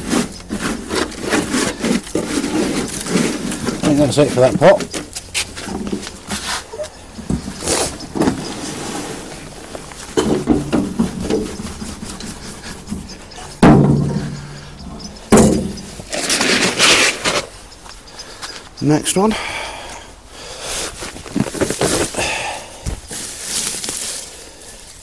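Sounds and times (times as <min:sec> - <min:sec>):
pots and compost rustling and scraping: 0:00.0 - 0:19.6, 0:20.4 - 0:25.0.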